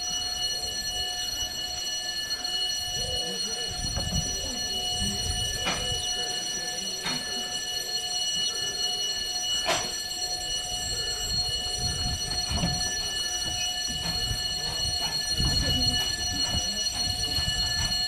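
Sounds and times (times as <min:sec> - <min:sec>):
level crossing warning tone: 0:00.0 - 0:18.0.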